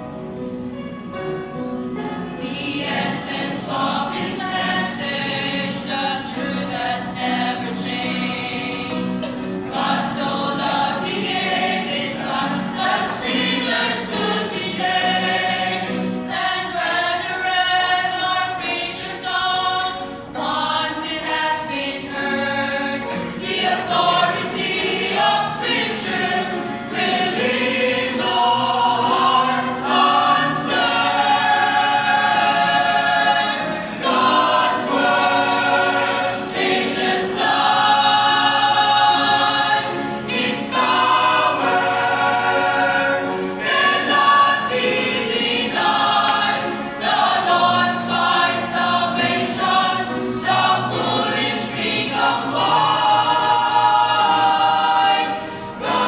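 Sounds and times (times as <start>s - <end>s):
church choir singing gospel: 1.8s - 56.0s.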